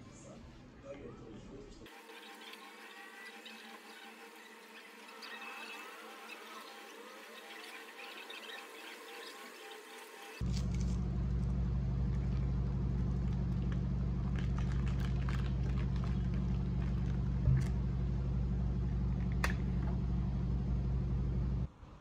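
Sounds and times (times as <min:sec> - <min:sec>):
low machine hum: 0:01.9 - 0:22.0.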